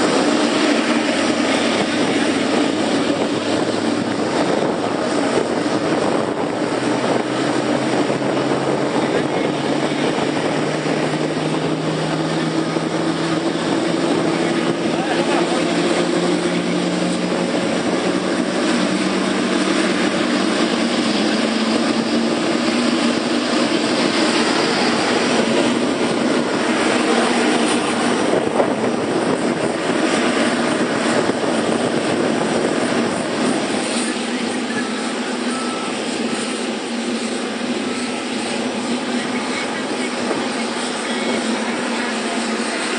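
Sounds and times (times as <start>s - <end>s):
jet engines spooling up: 0.0s - 42.9s.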